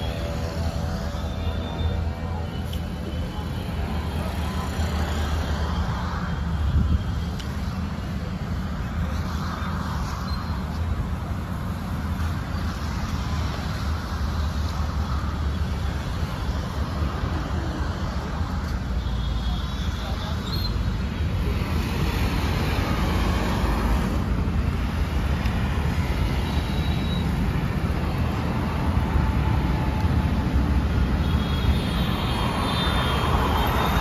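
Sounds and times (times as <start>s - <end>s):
traffic rumbling over a bridge: 0.0s - 34.0s.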